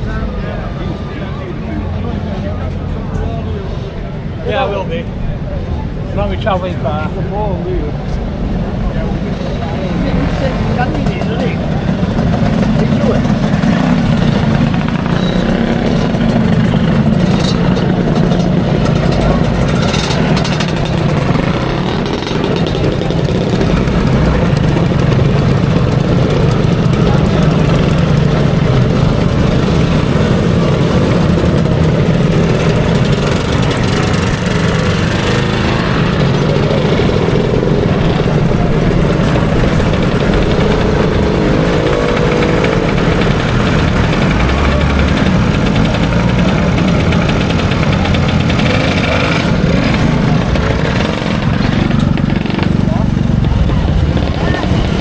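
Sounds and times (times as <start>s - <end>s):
scooter engines idling: 0.0s - 55.0s.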